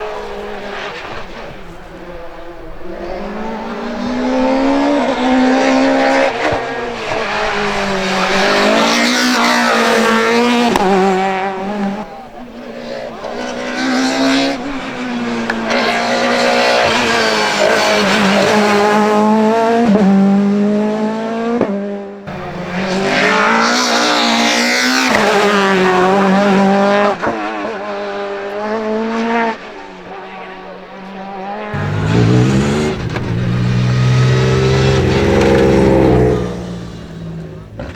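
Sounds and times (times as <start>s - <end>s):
rally car engine at high revs: 0.0s - 37.9s.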